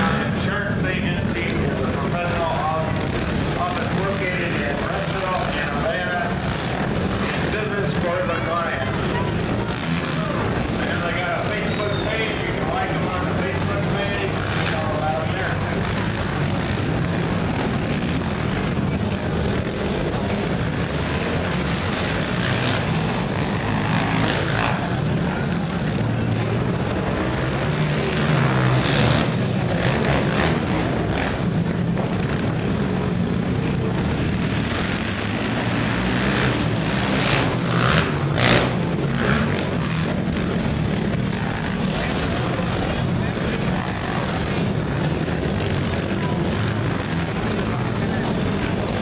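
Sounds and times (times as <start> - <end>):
quad engines racing: 0.0 - 49.0.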